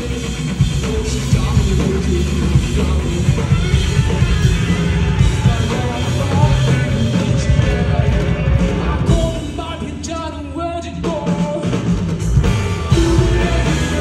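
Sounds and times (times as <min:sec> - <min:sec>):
drum kit beat: 0:00.0 - 0:14.0
rock band playing live: 0:00.0 - 0:14.0.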